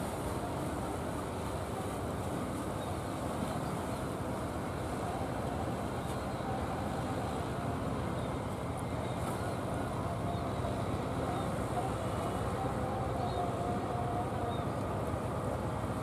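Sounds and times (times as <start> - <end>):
boat engine droning: 0.0 - 16.0
bow wave rushing through water: 0.0 - 16.0.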